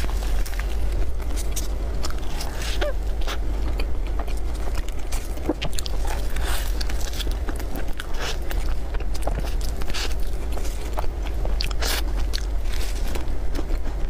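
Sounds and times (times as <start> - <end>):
biting and chewing: 0.0 - 14.0
steady low hum: 0.0 - 14.0.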